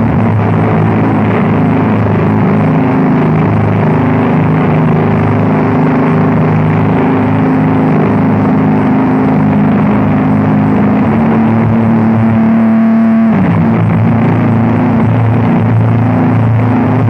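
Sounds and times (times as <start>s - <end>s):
drone noise music: 0.0s - 17.0s.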